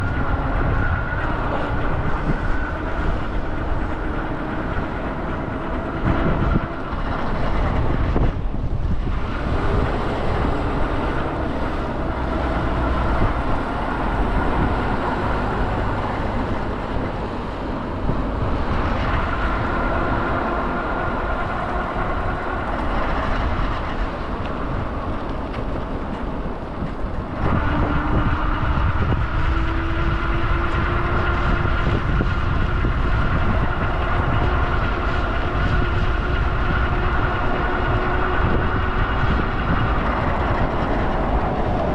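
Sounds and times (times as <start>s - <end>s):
vehicle rumble and hiss: 0.0s - 41.9s.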